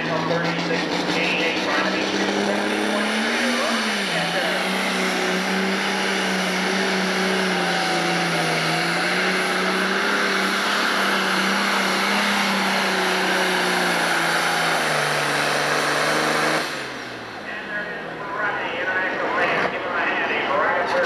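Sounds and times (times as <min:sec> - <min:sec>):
diesel tractor engine under load: 0:00.0 - 0:21.0.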